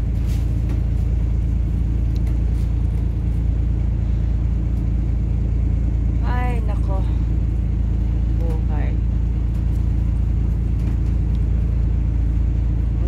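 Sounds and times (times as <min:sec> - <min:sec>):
bus engine rumble inside cabin: 0:00.0 - 0:13.0.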